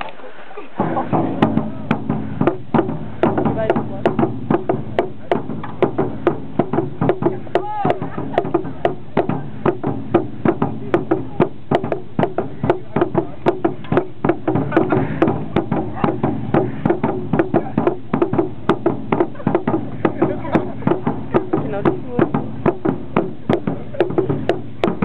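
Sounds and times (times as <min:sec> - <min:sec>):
fast drumming: 0:00.8 - 0:25.0.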